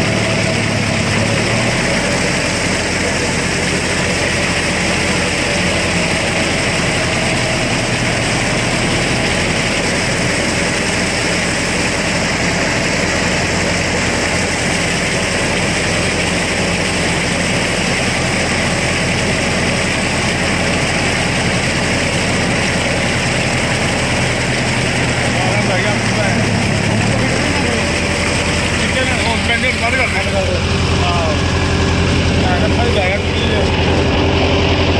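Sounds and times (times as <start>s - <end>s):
rotavator blades churning mud: 0.0s - 34.9s
tractor diesel engine running: 0.0s - 34.9s.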